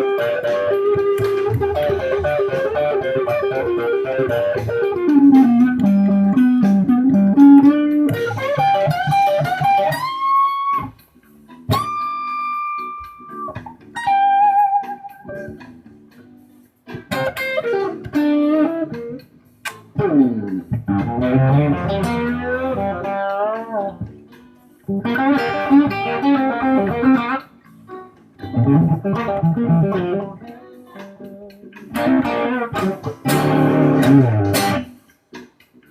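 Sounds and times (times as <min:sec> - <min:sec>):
fuzz electric guitar lead licks: 0:00.0 - 0:35.9.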